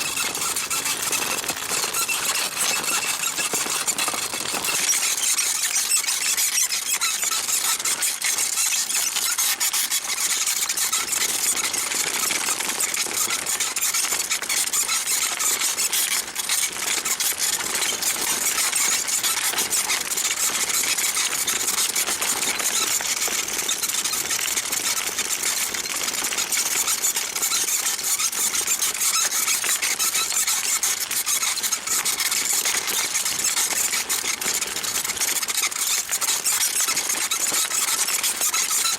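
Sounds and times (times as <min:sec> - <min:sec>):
bicycle saddle squeaking: 0:00.0 - 0:38.9.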